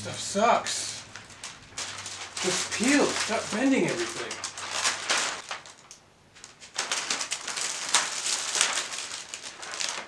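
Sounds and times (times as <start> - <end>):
plastic film crinkling and rustling: 1.0 - 10.0.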